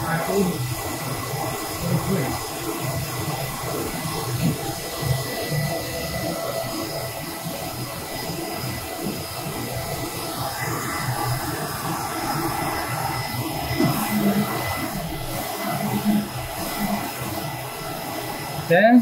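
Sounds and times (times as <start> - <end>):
printer machine noise with whine: 0.0 - 19.0.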